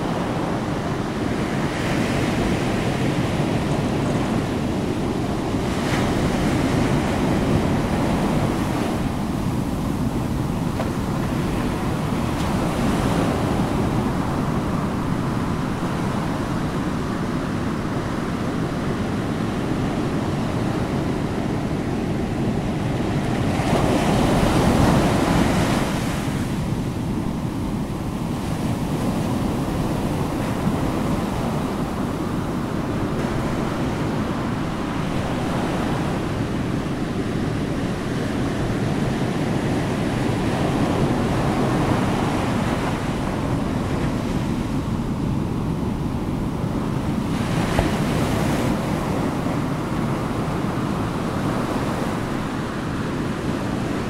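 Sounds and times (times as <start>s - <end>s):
ocean surf rushing: 0.0s - 54.0s.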